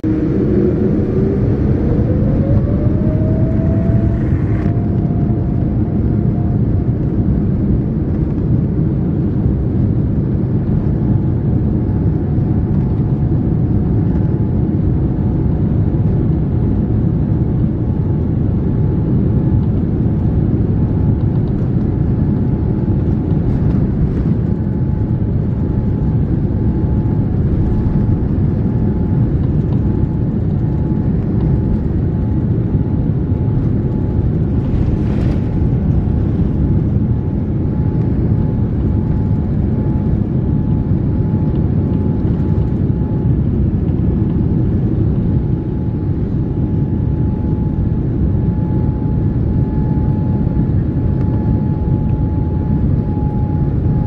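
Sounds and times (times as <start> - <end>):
airplane cabin rumble: 0.0 - 54.0
engine whine: 0.0 - 54.0.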